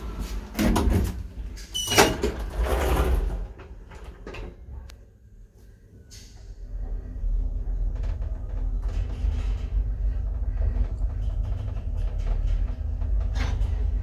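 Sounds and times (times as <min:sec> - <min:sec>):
elevator doors closing: 0:00.0 - 0:04.9, 0:06.0 - 0:14.0
low background hum: 0:00.0 - 0:14.0.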